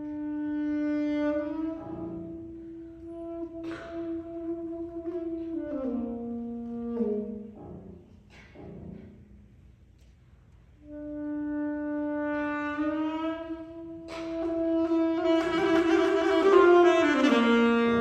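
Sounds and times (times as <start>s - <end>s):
saxophone notes: 0.0s - 8.1s, 10.8s - 18.0s.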